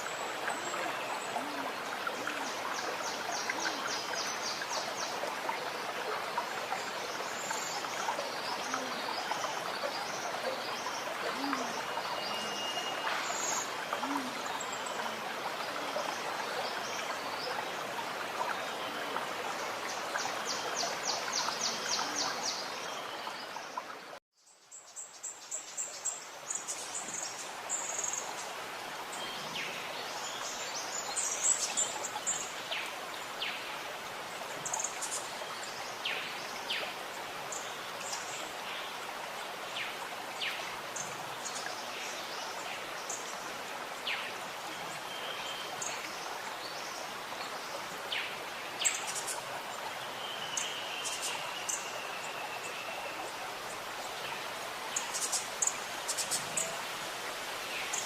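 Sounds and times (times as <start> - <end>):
stream water gurgling: 0.0 - 58.0.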